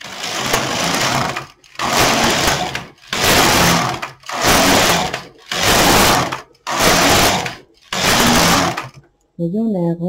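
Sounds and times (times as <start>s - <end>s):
knitting machine carriage running: 0.0s - 9.0s.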